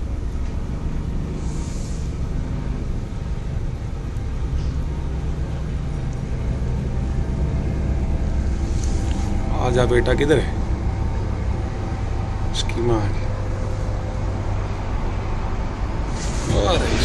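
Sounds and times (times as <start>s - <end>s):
faint hum: 0.0s - 17.0s
low mechanical rumble: 0.0s - 17.0s.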